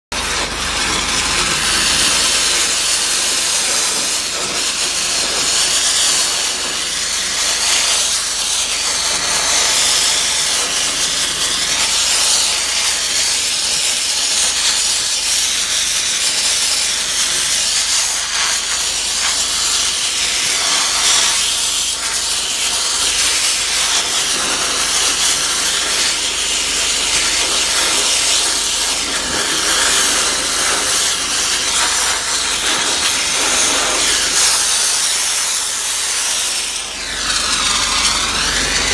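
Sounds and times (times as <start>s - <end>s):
high-pressure water jet hissing: 0.1s - 38.9s.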